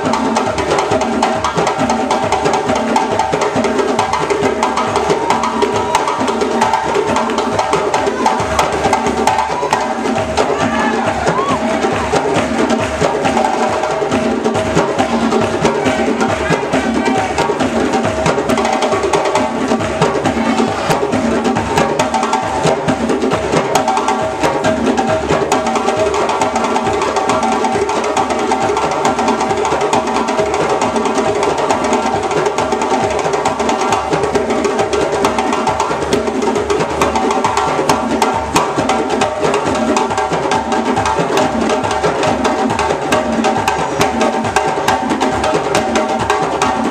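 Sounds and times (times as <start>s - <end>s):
djembe drums played by hand: 0.0s - 46.9s.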